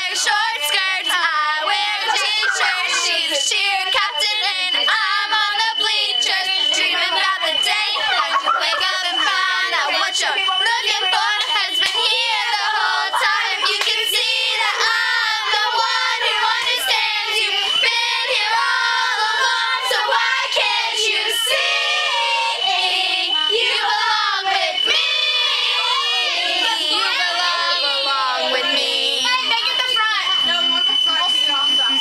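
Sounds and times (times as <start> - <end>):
girls singing pop song: 0.0 - 31.8.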